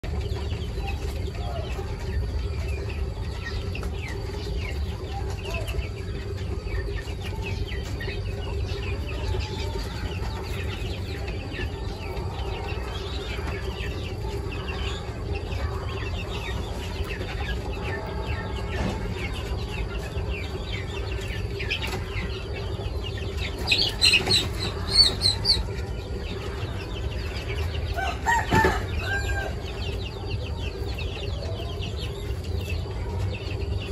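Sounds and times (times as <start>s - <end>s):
quail chirping: 0.0s - 33.9s
steady low hum: 0.0s - 33.9s
high-pitched bird calls: 0.1s - 33.9s.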